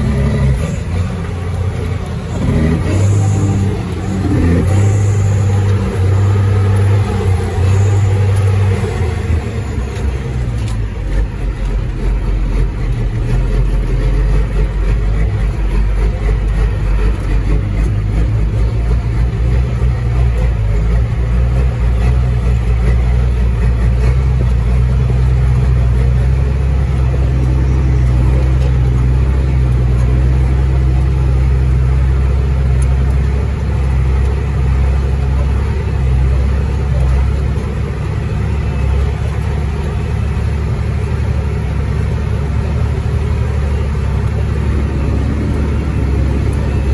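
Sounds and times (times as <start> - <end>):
diesel truck engine droning: 0.0 - 46.9.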